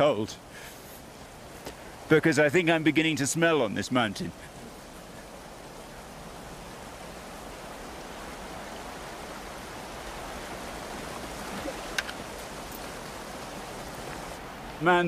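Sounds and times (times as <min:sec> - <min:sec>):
mountain stream running: 0:00.0 - 0:15.0.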